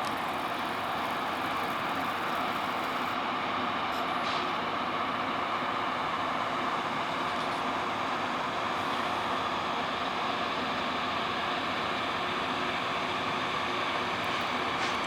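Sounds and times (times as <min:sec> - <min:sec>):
rail grinding train machinery: 0:00.0 - 0:15.0.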